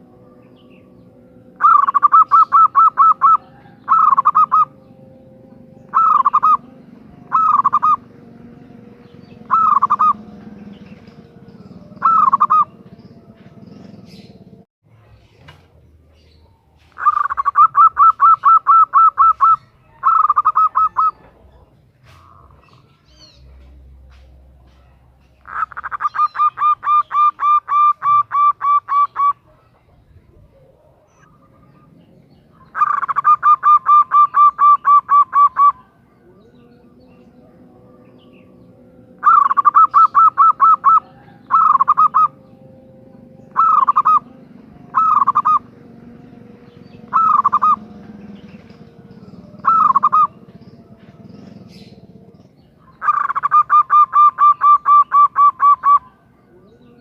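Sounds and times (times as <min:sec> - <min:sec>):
dove calling: 0:00.0 - 0:14.7, 0:15.4 - 0:57.0.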